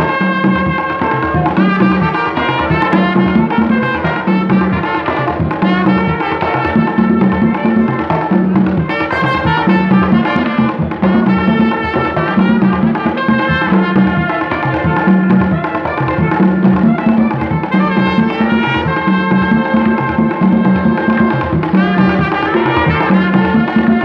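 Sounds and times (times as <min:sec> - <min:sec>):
hand drums beating: 0:00.0 - 0:24.0
trumpet melody: 0:00.0 - 0:24.0.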